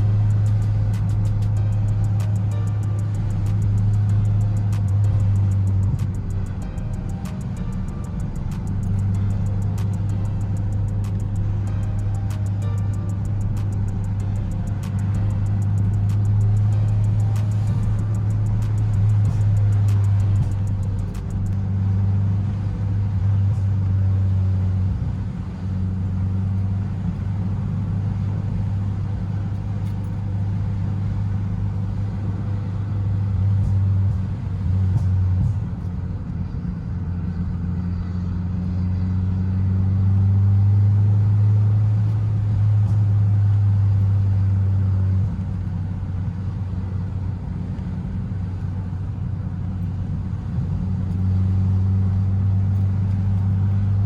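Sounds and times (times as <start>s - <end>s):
car engine and exhaust drone: 0.0s - 54.0s.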